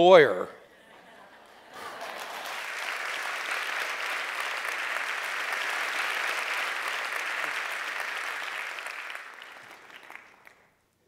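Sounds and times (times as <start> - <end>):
audience applauding: 1.5 - 10.8.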